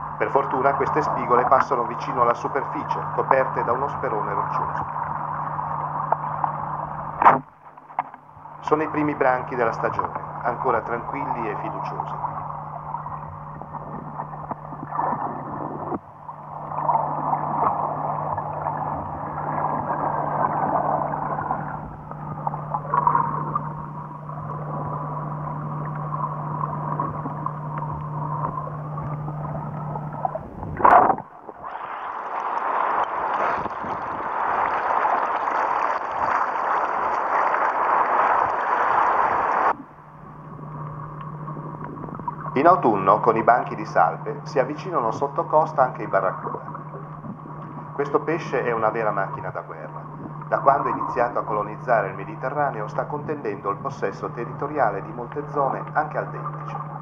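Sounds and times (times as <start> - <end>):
low hum: 0.0 - 57.0
underwater water wash: 0.0 - 57.0.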